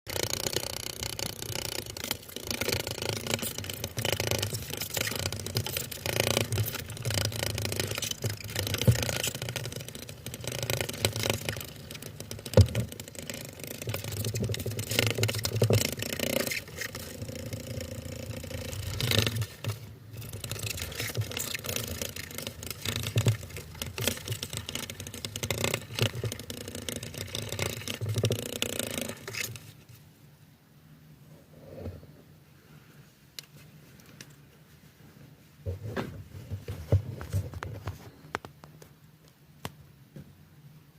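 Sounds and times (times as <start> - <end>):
rustling and scraping: 0.1 - 30.2, 31.2 - 39.0.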